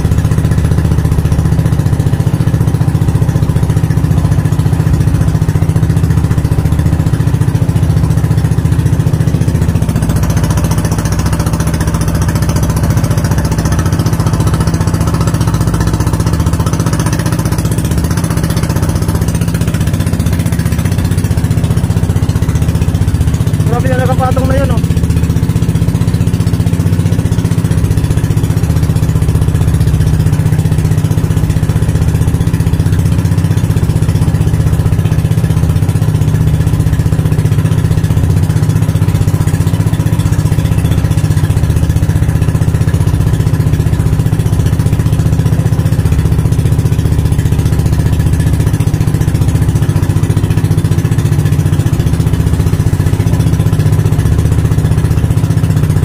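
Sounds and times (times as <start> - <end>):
motor engine running steadily: 0.0 - 56.0.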